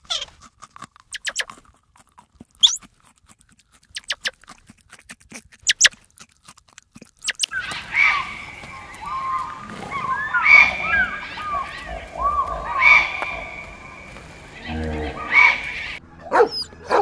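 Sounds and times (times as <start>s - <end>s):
squirrel chewing and gnawing: 0.0s - 16.0s.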